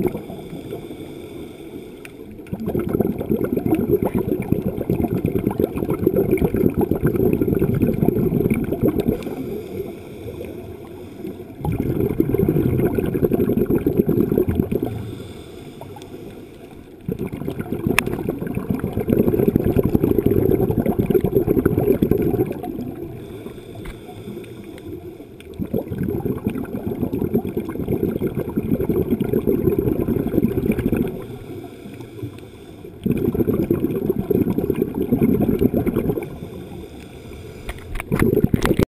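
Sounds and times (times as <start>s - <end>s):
underwater exhaled bubbles: 0.0s - 38.9s.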